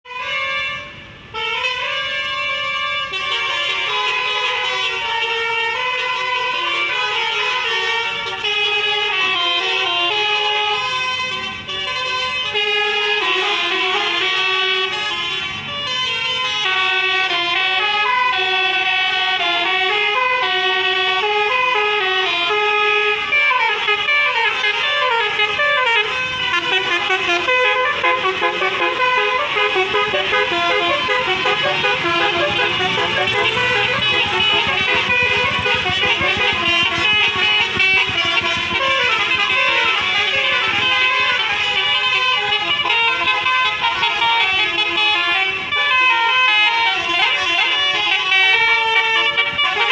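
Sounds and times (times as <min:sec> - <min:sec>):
multi-tone bus air horns: 0:00.0 - 0:49.9.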